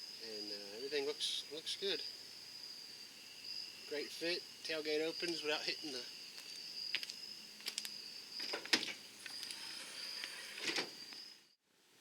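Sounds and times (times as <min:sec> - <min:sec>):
crickets chirping: 0:00.0 - 0:11.6.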